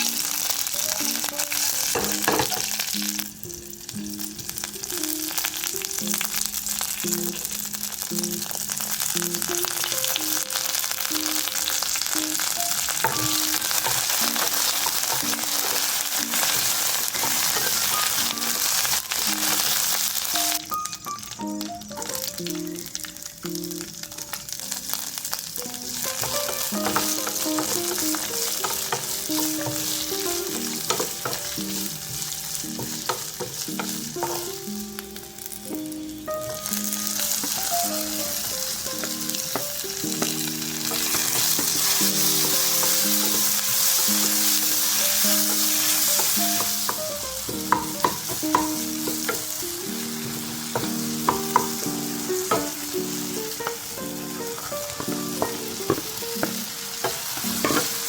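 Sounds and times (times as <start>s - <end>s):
food sizzling in oil: 0.0s - 58.0s
soft background music: 0.0s - 58.0s.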